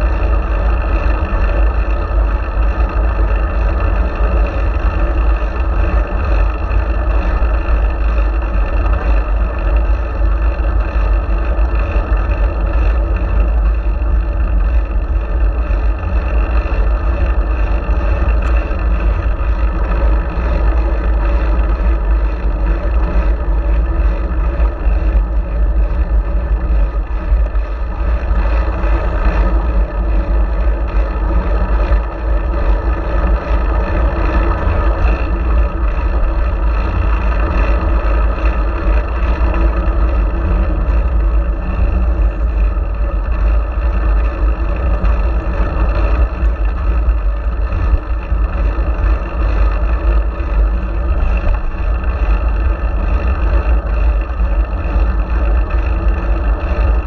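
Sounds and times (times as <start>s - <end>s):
wind and road noise rumble: 0.0s - 57.0s.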